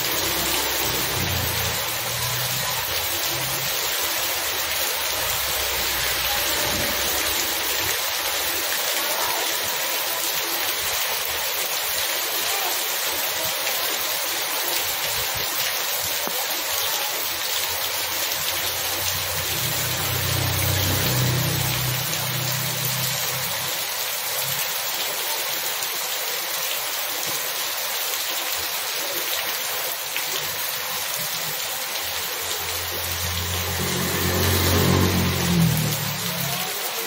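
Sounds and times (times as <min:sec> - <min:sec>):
heavy rain on wet street: 0:00.0 - 0:37.0.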